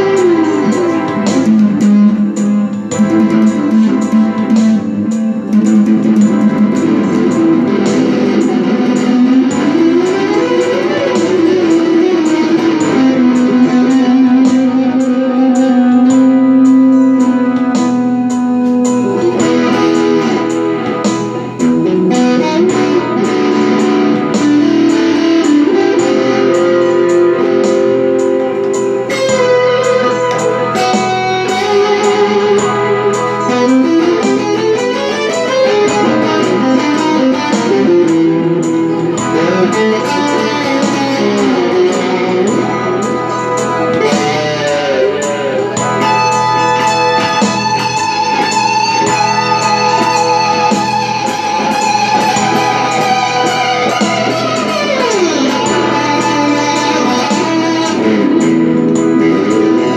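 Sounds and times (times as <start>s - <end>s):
slide electric guitar: 0.0s - 59.9s.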